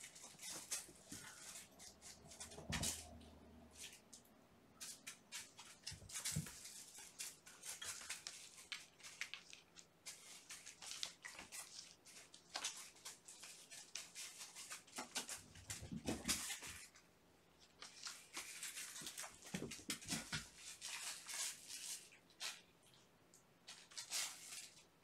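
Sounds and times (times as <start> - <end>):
kitten clawing cardboard scratcher: 0.0 - 4.1, 4.8 - 17.0, 17.8 - 22.7
kittens' claws scratching and tapping: 0.0 - 17.0, 17.7 - 23.0.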